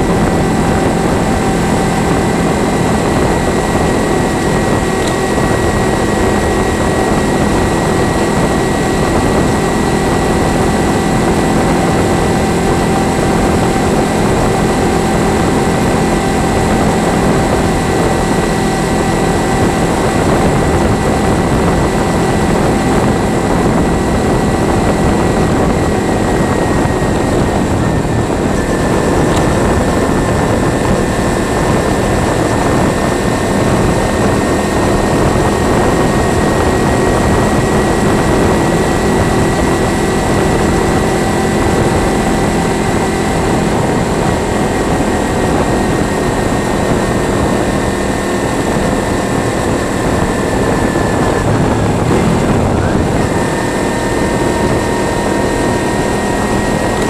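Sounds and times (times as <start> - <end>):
motorcycle engine riding: 0.0 - 57.0
wind rush on microphone: 0.0 - 57.0.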